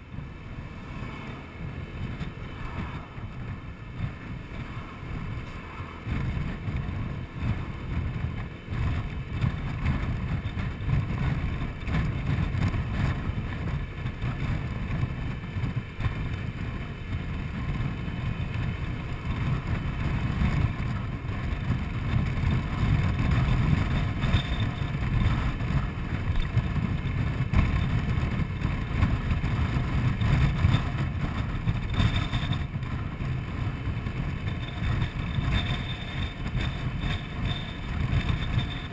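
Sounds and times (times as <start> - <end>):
scooter engine running: 0.0 - 38.9
wind on microphone: 0.0 - 38.9.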